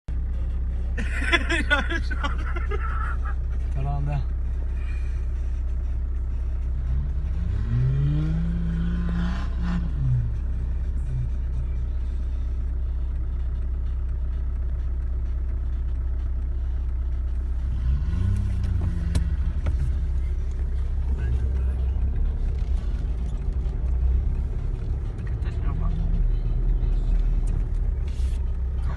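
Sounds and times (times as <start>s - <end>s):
diesel engine revving: 0.1s - 28.9s.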